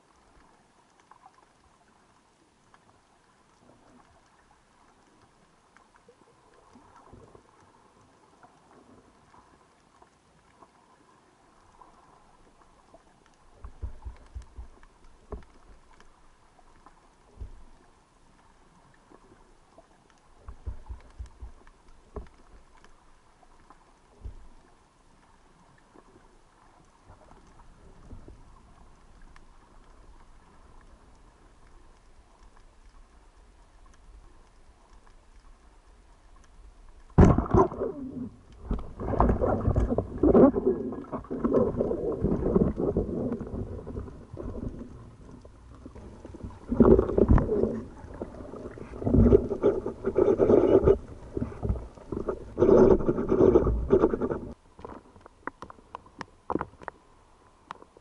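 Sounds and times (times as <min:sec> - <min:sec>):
faint underwater hiss: 0:00.0 - 0:58.0
water rushing and gurgling: 0:00.0 - 0:58.0.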